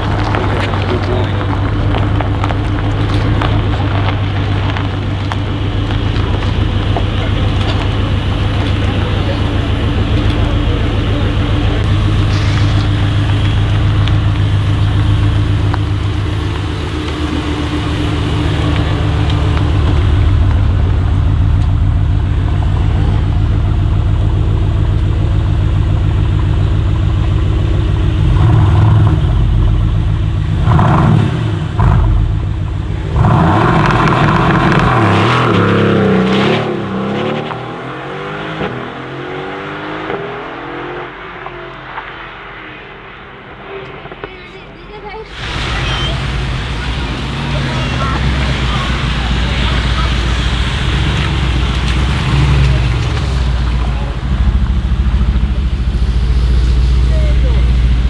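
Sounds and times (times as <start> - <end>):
car accelerating away: 0.0 - 44.3, 45.2 - 58.0
car engine idling and revving: 0.0 - 58.0.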